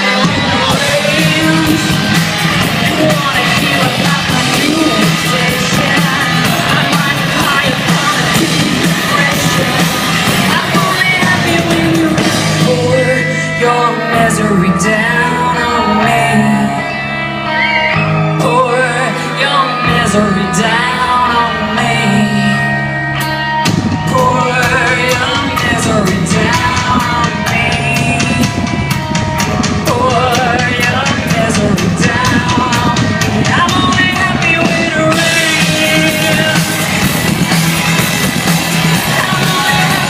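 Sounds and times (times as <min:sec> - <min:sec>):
held bass notes: 0:00.0 - 0:40.0
rock song with singing: 0:00.0 - 0:40.0.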